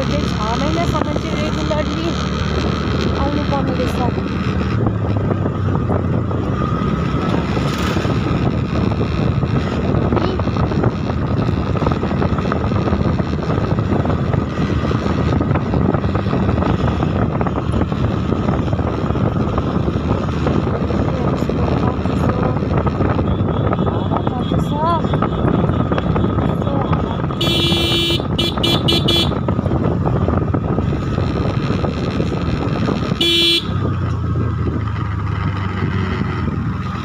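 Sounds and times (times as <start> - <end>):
vehicle running on road: 0.0 - 37.0
wind on microphone: 0.0 - 37.0.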